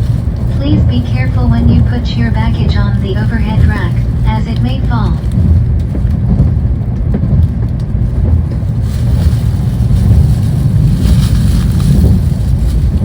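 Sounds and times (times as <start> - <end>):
train low rumble inside carriage: 0.0 - 13.0.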